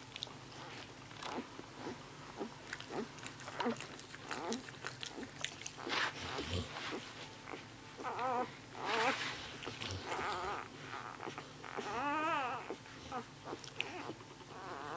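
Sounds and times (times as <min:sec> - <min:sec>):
puppies snuffling: 0:00.0 - 0:14.9
puppies squealing and whimpering: 0:00.6 - 0:14.9.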